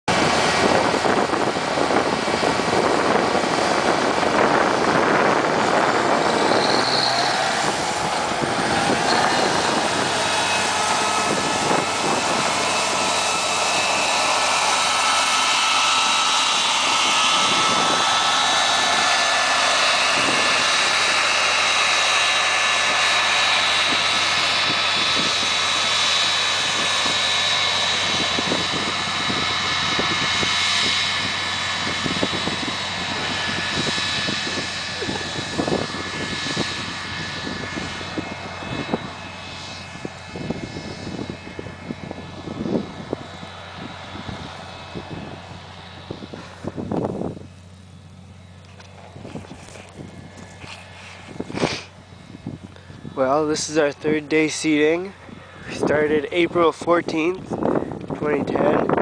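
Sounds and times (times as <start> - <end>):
tractor diesel engine under load: 0.0 - 59.0
seeder high whines: 0.1 - 59.0.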